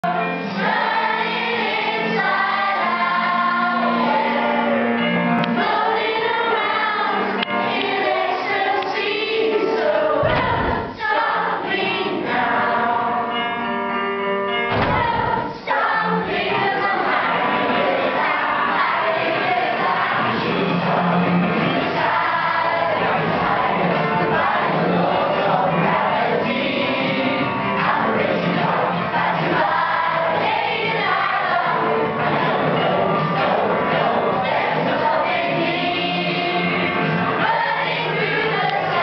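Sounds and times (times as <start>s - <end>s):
children's choir singing: 0.0s - 13.7s, 14.5s - 39.0s.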